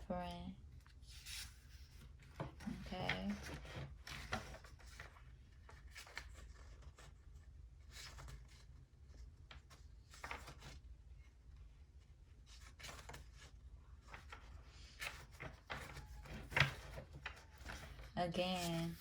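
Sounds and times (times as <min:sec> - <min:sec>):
low room hum: 0:00.0 - 0:19.0
cards rustling and tapping: 0:00.9 - 0:10.9, 0:12.5 - 0:19.0.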